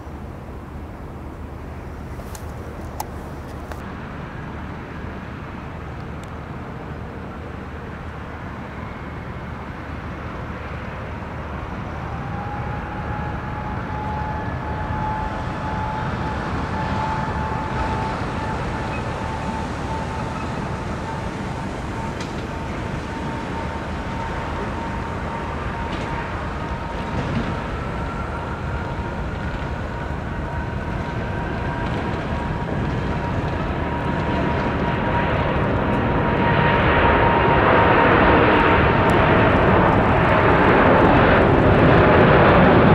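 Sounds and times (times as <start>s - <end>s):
jet engine whine: 0.0s - 42.9s
jet engines rumbling: 0.0s - 42.9s.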